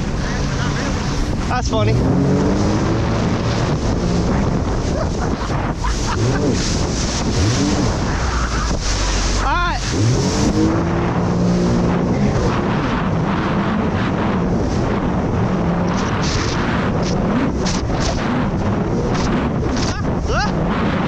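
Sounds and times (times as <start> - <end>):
jet ski engine running: 0.0 - 21.0
rushing spray: 0.0 - 21.0
water slapping hull: 0.0 - 21.0
wind buffeting microphone: 0.0 - 21.0.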